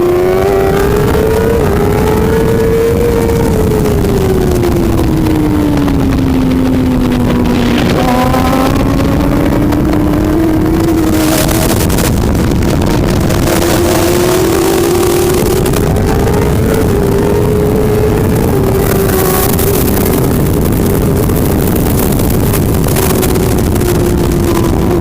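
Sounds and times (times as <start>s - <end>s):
motorcycle engine revving: 0.0s - 25.0s
loud rushing noise: 4.8s - 25.0s.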